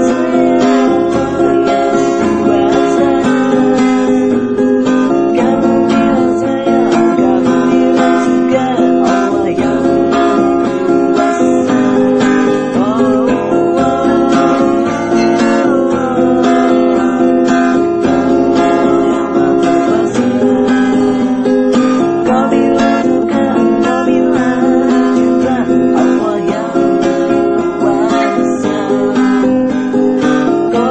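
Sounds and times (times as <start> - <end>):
acoustic guitar strumming chords: 0.0 - 30.9.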